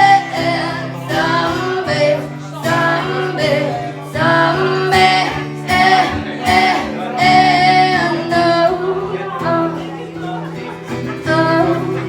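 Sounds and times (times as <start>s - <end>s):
person singing long notes: 0.0s - 10.0s
guitar accompaniment: 0.0s - 12.0s.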